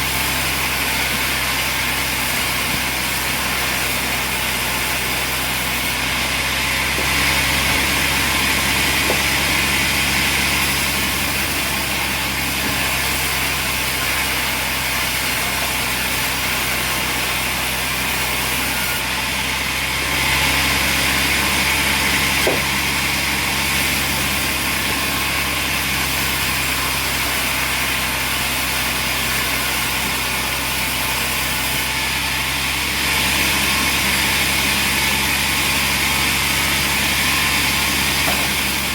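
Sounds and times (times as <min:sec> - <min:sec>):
sawmill machinery droning: 0:00.0 - 0:38.9.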